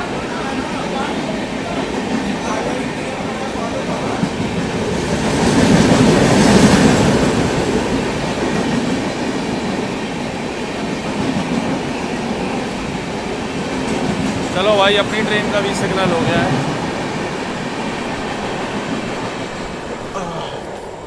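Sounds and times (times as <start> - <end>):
train wheels clickety-clack: 0.0 - 21.0.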